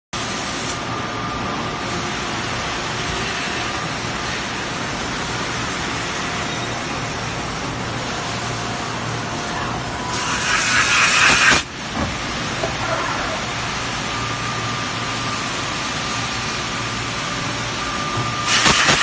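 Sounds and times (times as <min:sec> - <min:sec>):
factory machinery hiss: 0:00.2 - 0:19.0.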